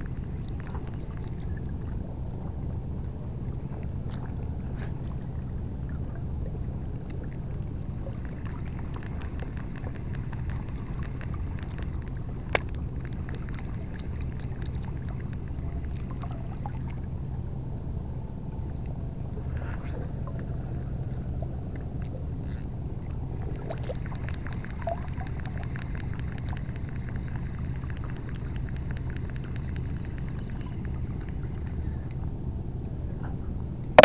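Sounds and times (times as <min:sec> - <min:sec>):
low rumble with hum: 0:00.0 - 0:34.0.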